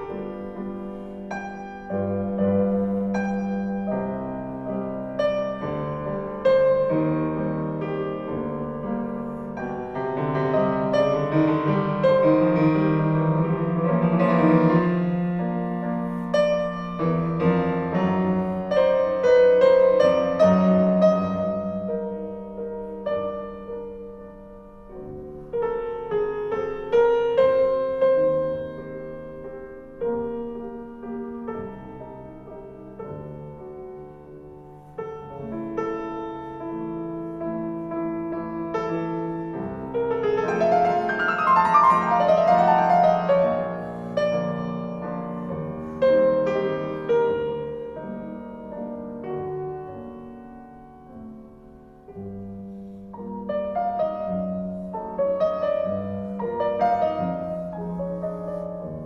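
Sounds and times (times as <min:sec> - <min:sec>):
slow solo piano piece: 0:00.0 - 0:59.0.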